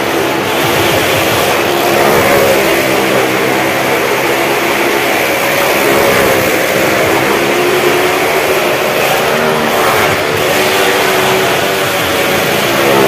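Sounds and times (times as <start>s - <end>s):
car and motorcycle engines running: 0.0s - 13.0s.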